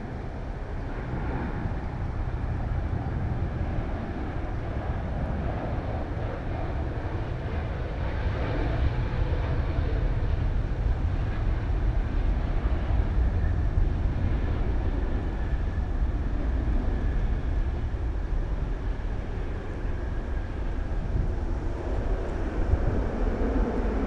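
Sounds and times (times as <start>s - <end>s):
jet engine rumble with whine: 0.0s - 24.0s.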